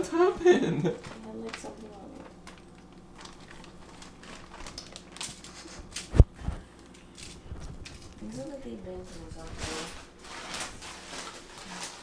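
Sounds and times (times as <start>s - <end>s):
plastic bag and foil crinkling: 0.9s - 12.0s.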